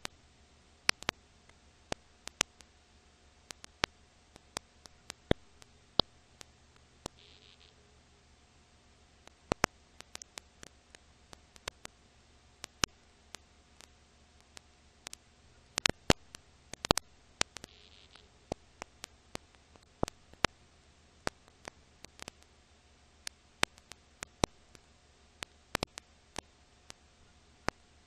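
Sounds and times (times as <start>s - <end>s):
film crackle and pops: 0.0s - 8.0s, 9.1s - 28.0s
steady hiss and low hum: 0.0s - 28.0s.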